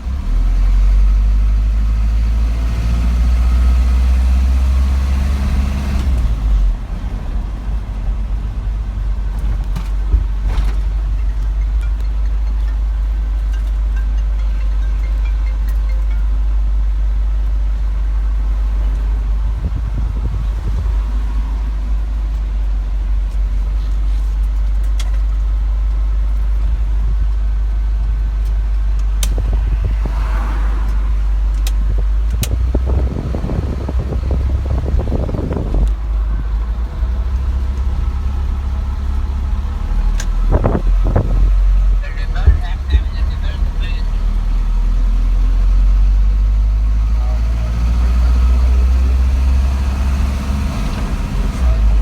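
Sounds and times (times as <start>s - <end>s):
truck engine droning: 0.0s - 52.0s.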